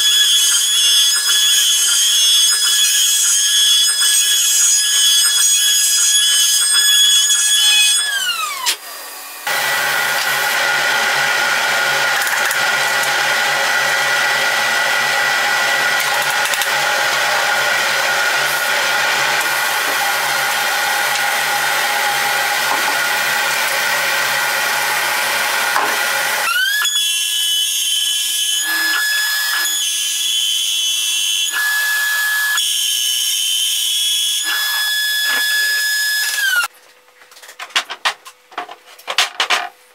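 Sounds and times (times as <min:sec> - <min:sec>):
router bit cutting wood: 0:00.0 - 0:36.7
router spindle whining: 0:00.0 - 0:36.7.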